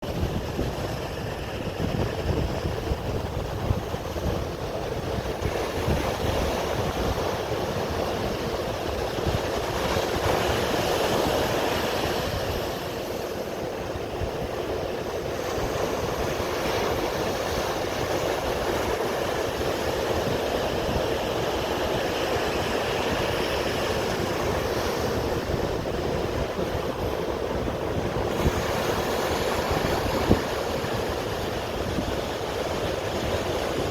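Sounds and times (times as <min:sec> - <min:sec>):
sea waves washing: 0:00.0 - 0:33.9.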